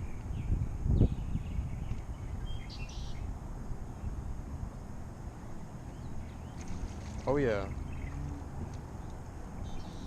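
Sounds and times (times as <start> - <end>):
birds chirping: 0.0 - 4.4, 5.2 - 10.0
steady low rumble: 0.0 - 10.0.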